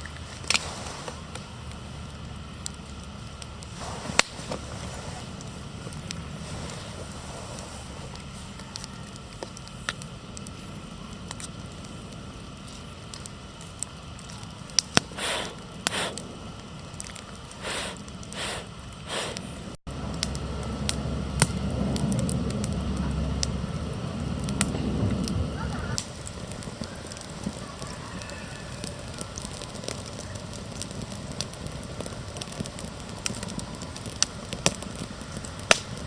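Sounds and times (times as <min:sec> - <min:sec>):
campfire crackling and popping: 0:00.0 - 0:36.0
rushes of noise: 0:00.0 - 0:36.0
low rumble: 0:01.2 - 0:36.0.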